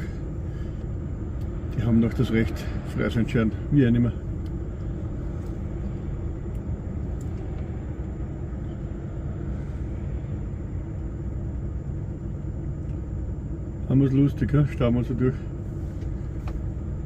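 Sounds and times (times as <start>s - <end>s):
diesel lorry engine rumble: 0.0s - 17.0s.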